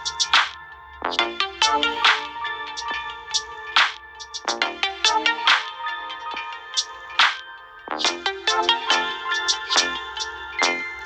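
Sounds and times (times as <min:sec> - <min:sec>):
electronic ringtone tune: 0:00.0 - 0:11.0.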